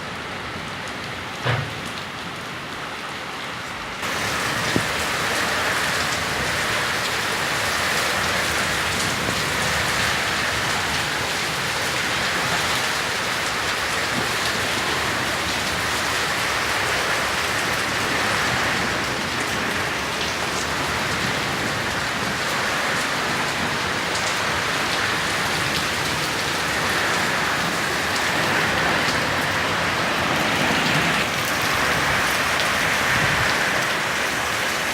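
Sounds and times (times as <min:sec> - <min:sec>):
heavy rain on hard surfaces: 0:00.0 - 0:34.9.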